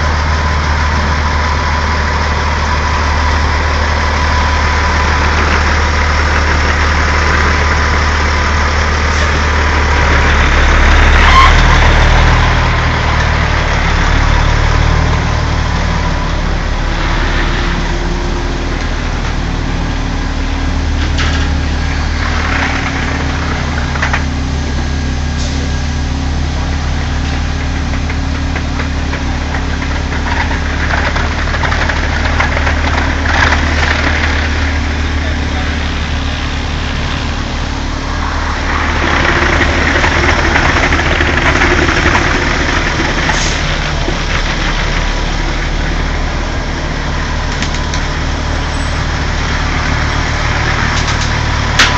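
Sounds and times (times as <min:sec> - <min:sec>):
truck diesel engine running: 0:00.0 - 0:51.9.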